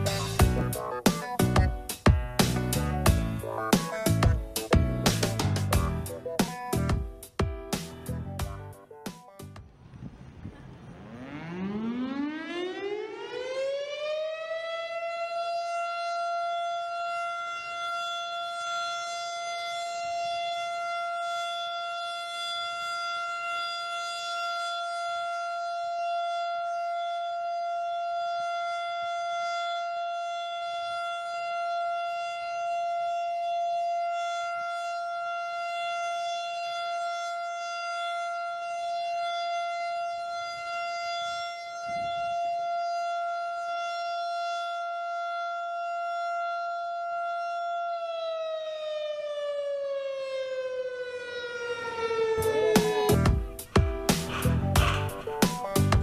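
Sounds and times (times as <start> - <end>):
city siren rising tone: 0.0 - 7.4, 8.0 - 56.0.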